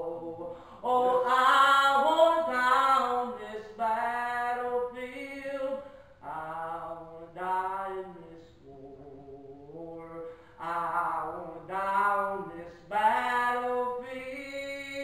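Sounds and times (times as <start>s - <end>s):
man and woman singing gospel: 0.0s - 15.0s.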